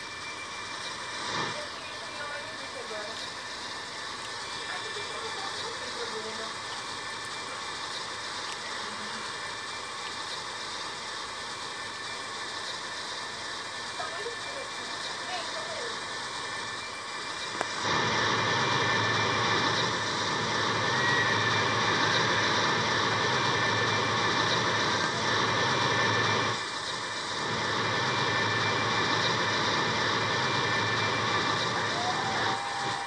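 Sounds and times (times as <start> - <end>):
roar of large fire burning: 0.0 - 33.0.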